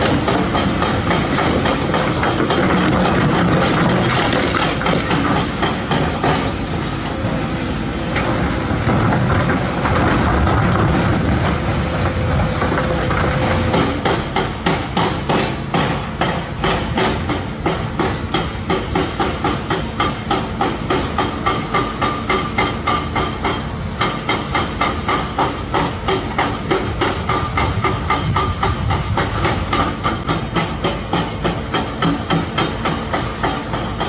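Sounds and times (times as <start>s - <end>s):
excavator diesel engine: 0.0s - 34.0s.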